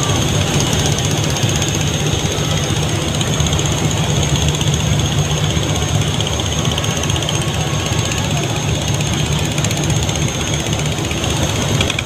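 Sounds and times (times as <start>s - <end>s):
boat engine droning: 0.0s - 12.0s
high steady whine: 0.0s - 12.0s.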